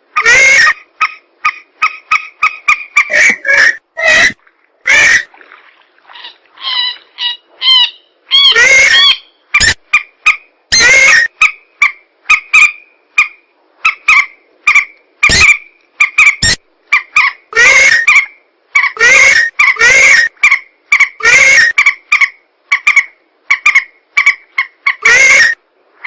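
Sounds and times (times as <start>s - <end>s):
harsh bird squawks: 0.2s - 5.3s, 6.1s - 25.6s
recorded bird calls: 0.2s - 5.3s, 6.1s - 25.6s.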